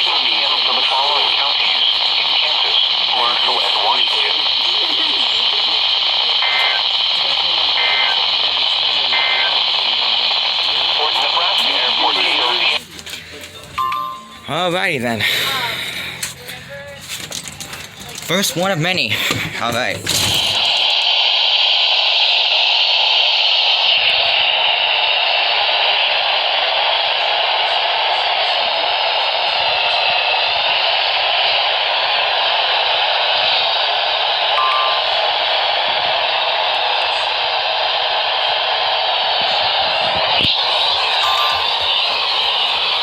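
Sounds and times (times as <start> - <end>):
radio static hiss: 0.0 - 12.9, 18.8 - 43.0.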